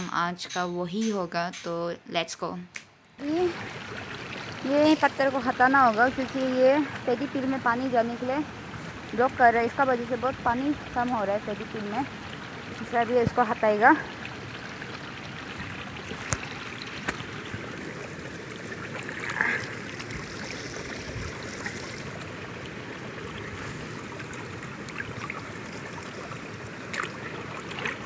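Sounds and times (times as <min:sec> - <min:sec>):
water running over stones: 0:03.2 - 0:28.0.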